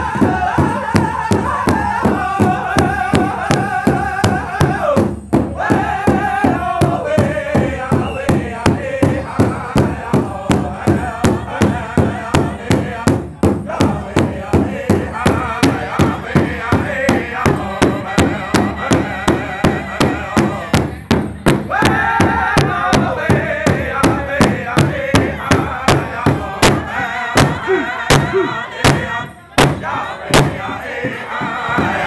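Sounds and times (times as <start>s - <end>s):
group singing in unison: 0.0s - 32.0s
large drum steady beat: 0.0s - 32.0s.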